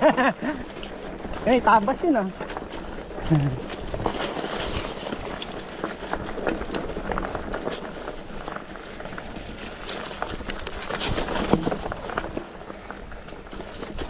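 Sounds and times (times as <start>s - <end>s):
bike rattling over bumps: 0.0s - 14.0s
tyres crunching on dirt: 0.0s - 14.0s.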